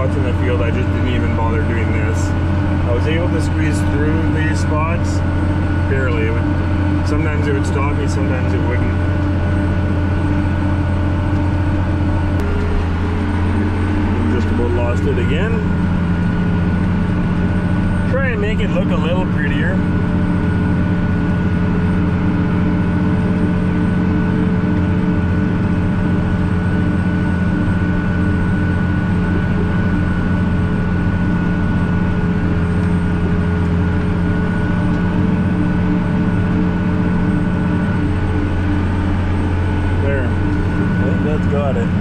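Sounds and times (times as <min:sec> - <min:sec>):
thin steady whine: 0:00.0 - 0:42.0
tractor engine drone: 0:00.0 - 0:42.0.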